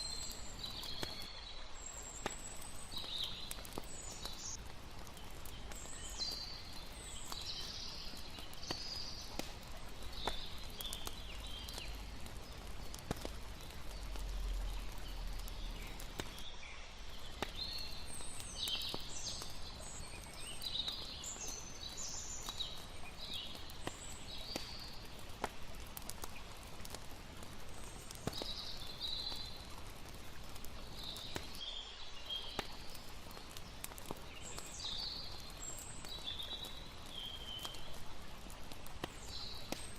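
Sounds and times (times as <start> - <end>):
campfire crackling with pops: 0.0 - 39.9
flowing water hiss: 0.0 - 39.9.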